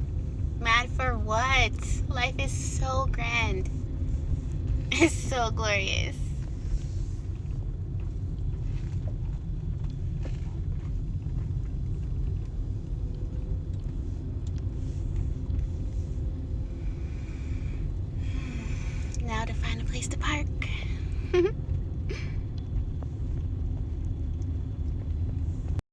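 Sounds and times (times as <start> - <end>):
car driving rumble: 0.0 - 25.8.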